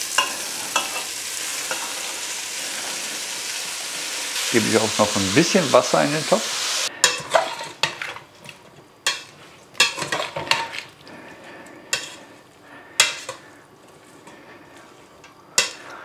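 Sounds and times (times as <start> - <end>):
faint sizzle: 0.0 - 16.0.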